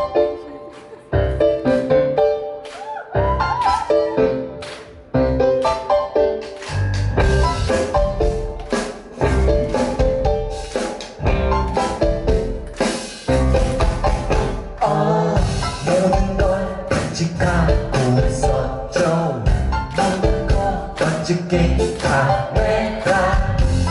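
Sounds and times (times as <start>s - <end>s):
live pop-rock band playing: 0.0s - 23.9s
drum kit beat: 2.7s - 23.9s.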